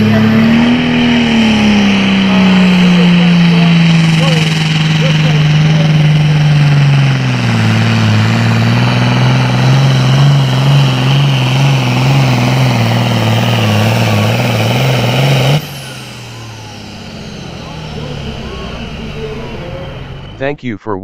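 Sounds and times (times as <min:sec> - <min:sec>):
tractor diesel engine at full throttle: 0:00.0 - 0:20.9.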